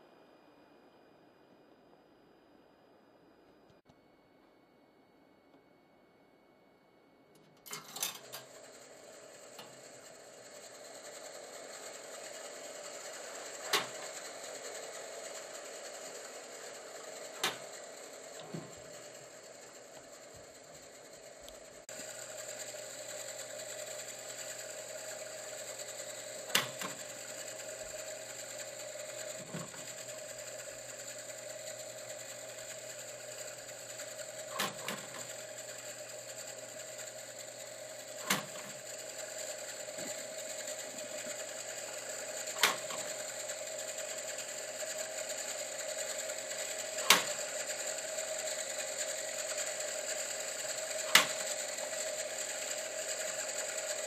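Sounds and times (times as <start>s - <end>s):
viewer mechanism whirring: 7.3s - 54.0s.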